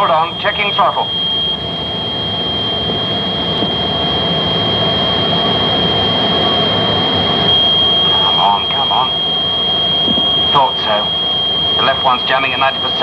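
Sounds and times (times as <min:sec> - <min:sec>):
jet engine rush and whine: 0:00.0 - 0:13.0.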